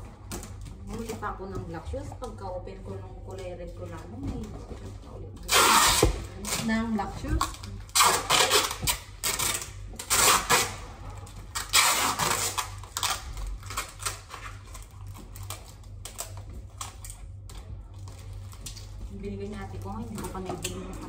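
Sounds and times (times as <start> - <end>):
packaging crinkling and rustling: 3.2 - 21.0.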